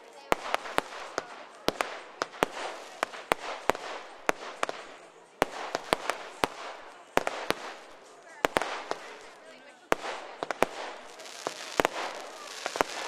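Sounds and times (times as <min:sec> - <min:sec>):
crackle of burning fireworks: 0:00.0 - 0:13.0
fireworks bangs: 0:00.0 - 0:13.0.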